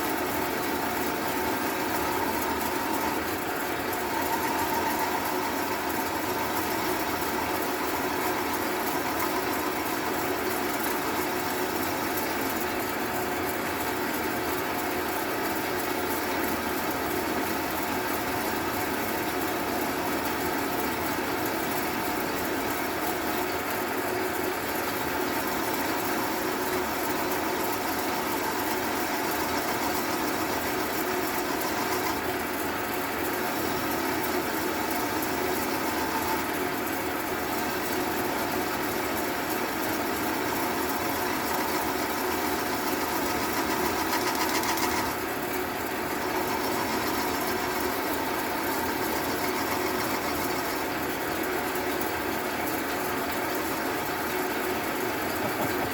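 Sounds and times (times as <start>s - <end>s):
lathe motor hum: 0.0s - 53.6s.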